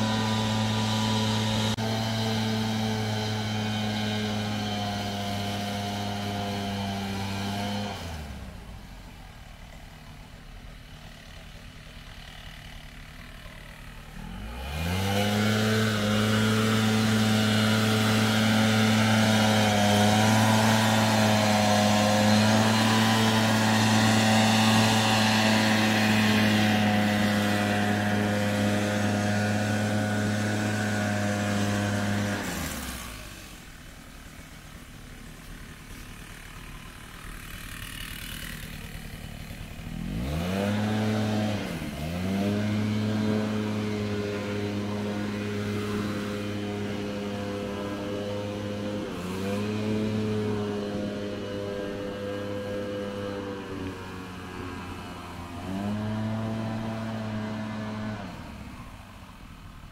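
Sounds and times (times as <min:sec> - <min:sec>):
leaf blower engine: 0:00.0 - 0:59.9.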